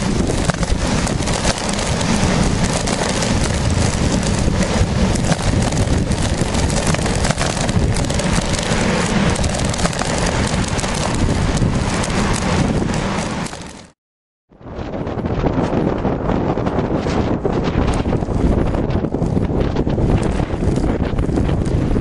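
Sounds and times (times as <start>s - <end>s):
wind buffeting microphone: 0.0s - 13.9s, 14.5s - 22.0s
tyres rumbling on asphalt: 0.0s - 14.0s, 15.7s - 22.0s.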